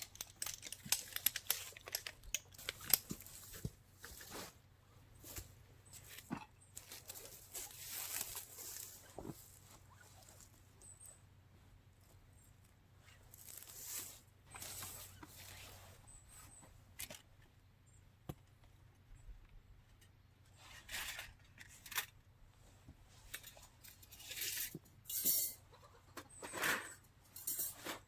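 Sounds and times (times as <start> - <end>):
rustling and scraping: 0.0 - 17.4, 19.9 - 28.0.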